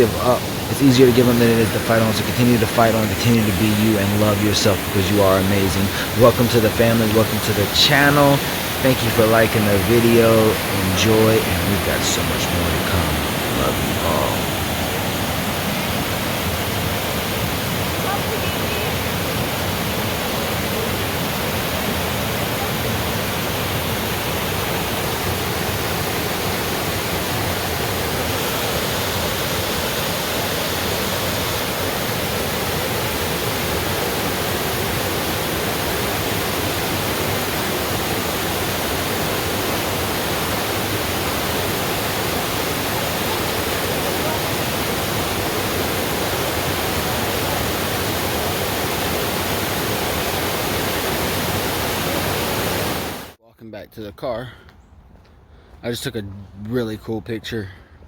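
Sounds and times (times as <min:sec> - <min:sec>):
waterfall rushing: 0:00.0 - 0:53.4.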